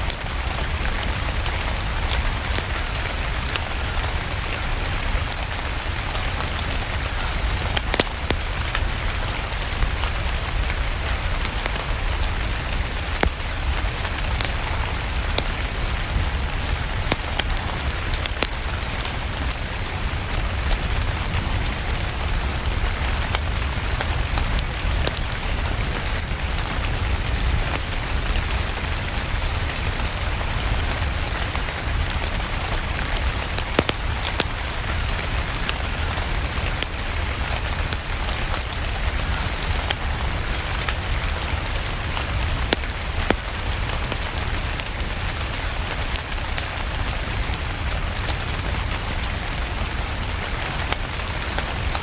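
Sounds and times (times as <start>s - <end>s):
steady rain: 0.0s - 52.0s
wood fire crackling: 0.0s - 52.0s.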